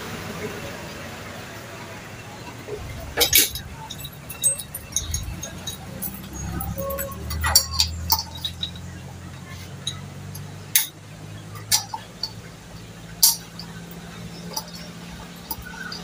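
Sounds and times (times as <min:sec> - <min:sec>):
metallic clinks of tools: 0:02.7 - 0:16.0.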